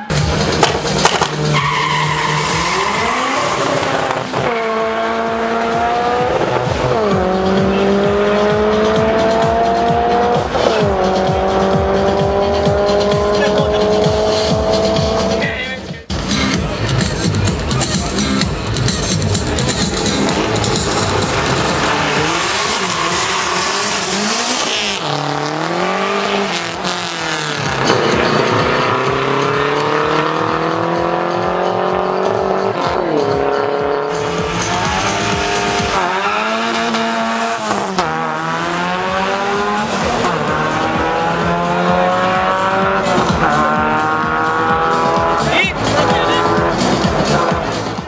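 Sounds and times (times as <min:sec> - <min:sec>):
drag car engines accelerating: 0:00.0 - 0:48.0.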